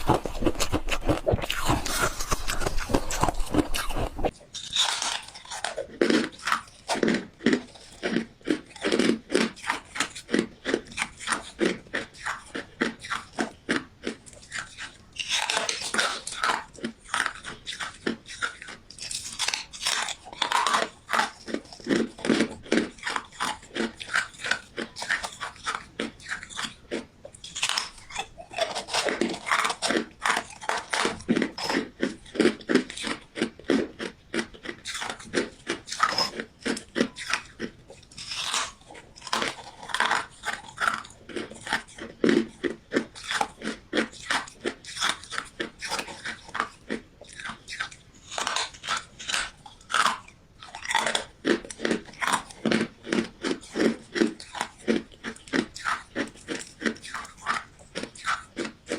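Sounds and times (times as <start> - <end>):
chewing and crunching ice: 0.0 - 58.9.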